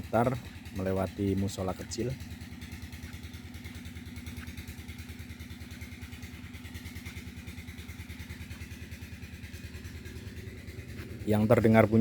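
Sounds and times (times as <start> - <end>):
generator engine puttering: 0.0 - 12.0.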